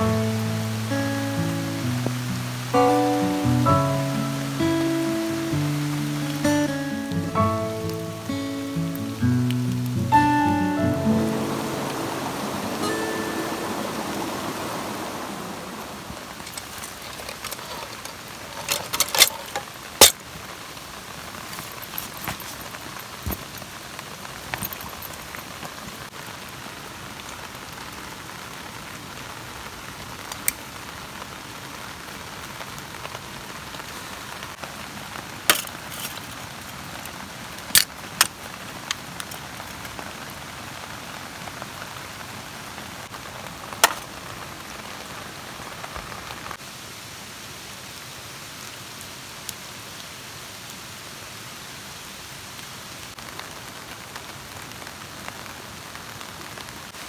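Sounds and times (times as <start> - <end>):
rain pattering on a tarp: 0.0 - 57.0.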